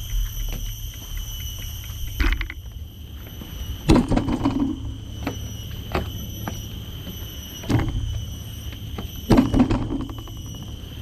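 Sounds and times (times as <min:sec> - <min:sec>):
footsteps on wooden boards: 0:00.0 - 0:09.8
insects buzzing: 0:00.0 - 0:11.0.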